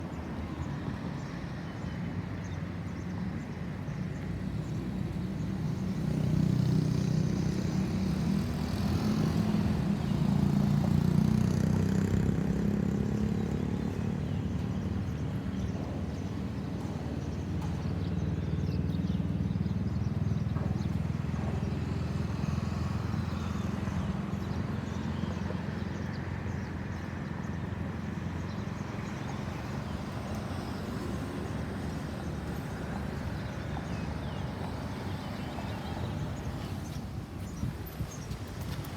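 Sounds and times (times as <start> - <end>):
vehicles passing: 4.1 - 38.9.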